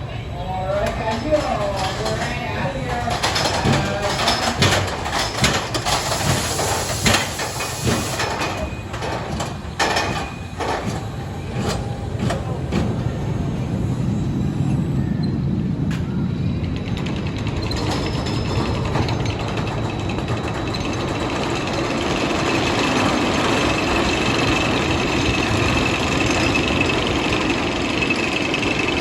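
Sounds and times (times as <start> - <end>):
roller coaster clacks and knocks: 0.0 - 29.0
roller coaster low rumble: 0.0 - 29.0.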